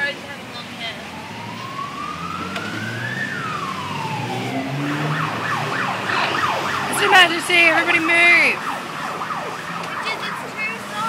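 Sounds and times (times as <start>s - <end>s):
emergency vehicle siren: 0.6s - 11.0s.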